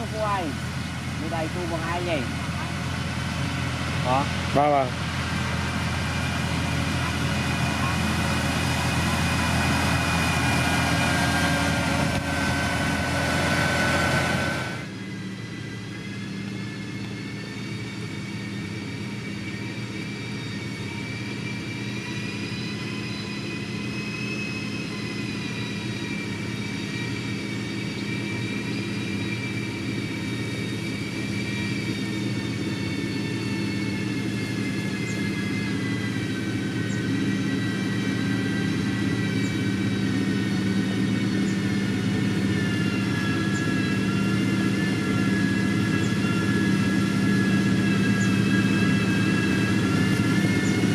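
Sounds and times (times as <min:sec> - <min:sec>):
heavy machinery diesel engine: 0:00.0 - 0:50.9
high whine: 0:00.0 - 0:50.9.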